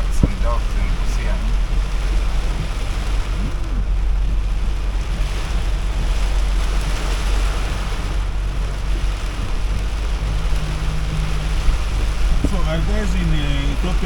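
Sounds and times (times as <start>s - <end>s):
heavy rain on a truck: 0.0s - 14.0s
road noise: 0.0s - 14.0s
vehicle engine rumble: 0.0s - 14.0s.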